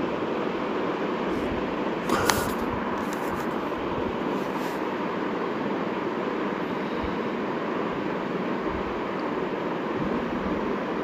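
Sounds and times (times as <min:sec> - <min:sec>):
steady rushing noise: 0:01.2 - 0:11.0.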